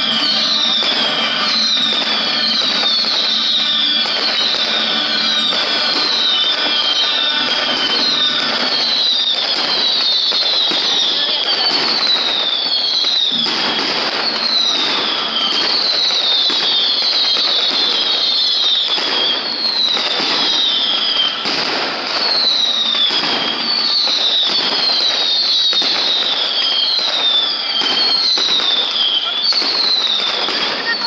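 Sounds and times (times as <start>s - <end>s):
fireworks bangs: 0.0s - 31.0s
fireworks crackling: 0.0s - 31.0s
whistling firework shells: 0.0s - 31.0s.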